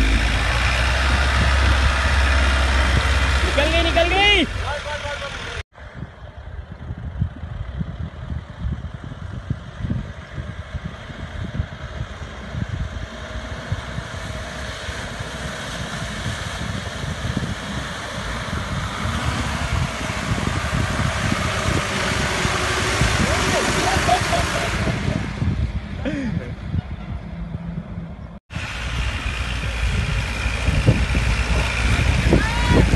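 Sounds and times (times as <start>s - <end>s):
wind rumbling on microphone: 0.0s - 4.0s, 5.8s - 32.9s
vehicle engine running: 0.0s - 32.9s.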